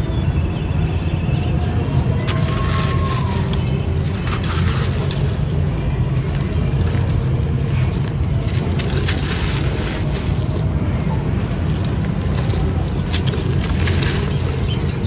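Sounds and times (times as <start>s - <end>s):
clay pot pieces crunching by hand: 2.0s - 15.0s.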